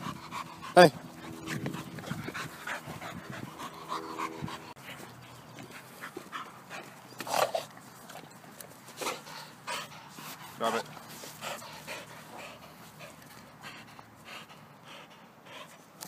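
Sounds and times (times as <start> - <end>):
dog panting: 0.0 - 7.2, 8.9 - 16.0.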